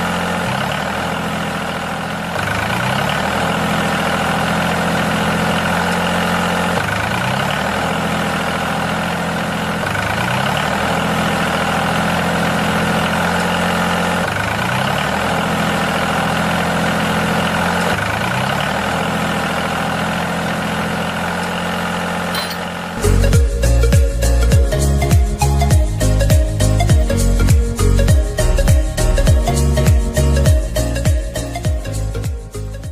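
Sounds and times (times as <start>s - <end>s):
engine idling: 0.0s - 32.9s.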